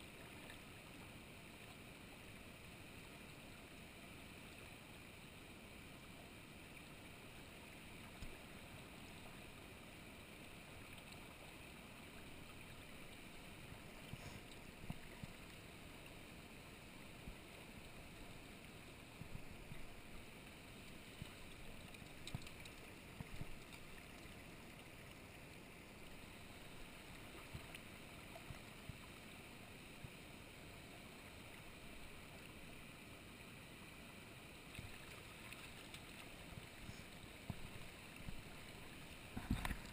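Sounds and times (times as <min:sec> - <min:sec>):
river flowing over rocks: 0:04.9 - 0:39.9.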